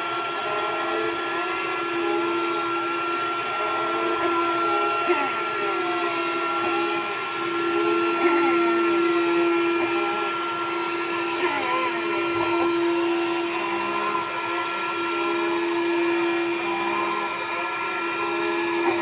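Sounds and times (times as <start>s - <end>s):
suction fan motor whining: 0.0s - 19.0s.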